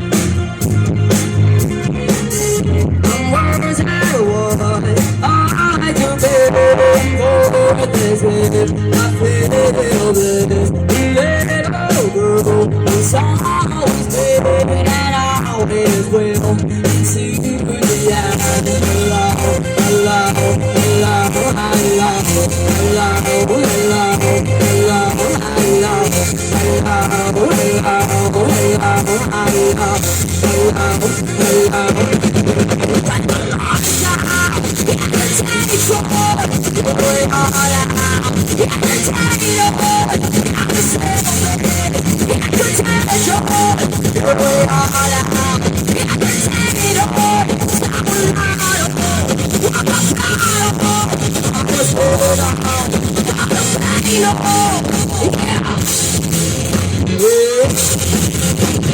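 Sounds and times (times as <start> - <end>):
electric guitar melody: 0.0 - 58.9
rock band playing: 0.0 - 58.9.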